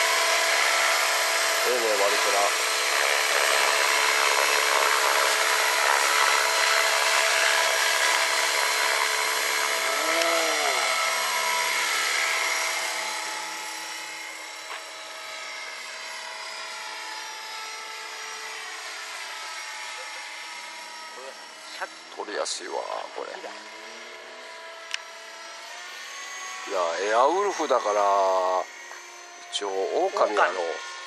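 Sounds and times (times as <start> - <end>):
model helicopter motor whine: 0.0 - 31.0.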